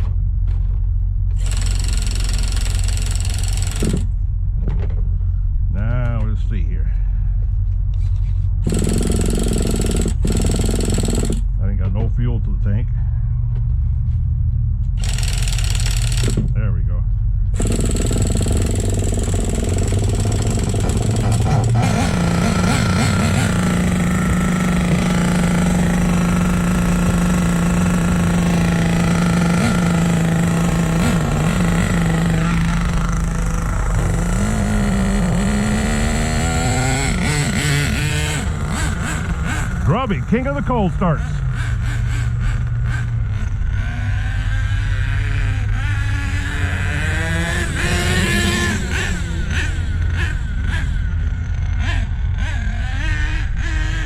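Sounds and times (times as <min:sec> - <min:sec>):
small engine idling: 0:00.0 - 0:06.3, 0:06.9 - 0:12.2, 0:13.1 - 0:54.0
engine throttle blips: 0:00.0 - 0:54.0.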